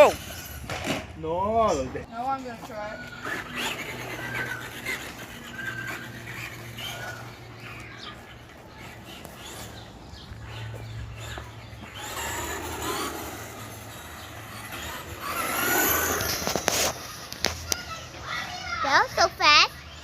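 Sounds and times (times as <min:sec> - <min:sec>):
electric motor whining: 0:00.0 - 0:01.0, 0:02.3 - 0:17.8
tyres running over ground: 0:00.0 - 0:20.0.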